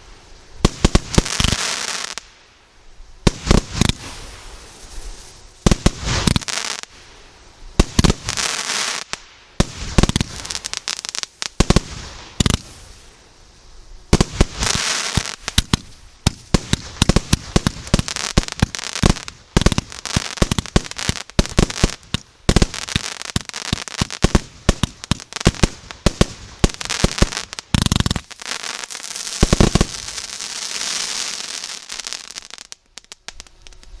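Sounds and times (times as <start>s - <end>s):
firework crackling hiss: 0.0s - 34.0s
firework sharp bangs: 0.6s - 2.3s, 3.2s - 6.9s, 7.8s - 13.0s, 14.1s - 34.0s.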